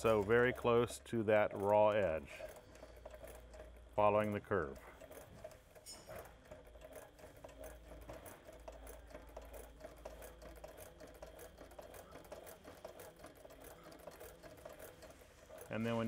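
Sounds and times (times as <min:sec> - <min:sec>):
low motor hum: 0:00.0 - 0:16.0
sewing machine needle clicks: 0:00.0 - 0:16.0.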